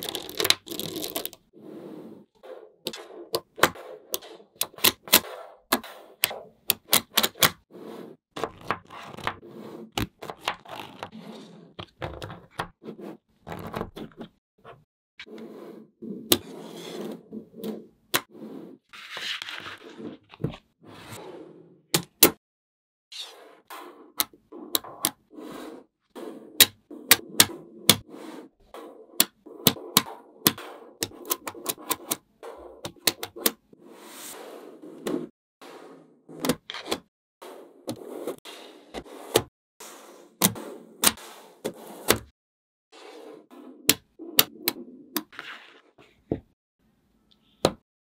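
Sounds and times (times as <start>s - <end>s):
balls rolling and scraping: 0.0s - 21.9s, 23.1s - 42.3s, 42.9s - 46.6s.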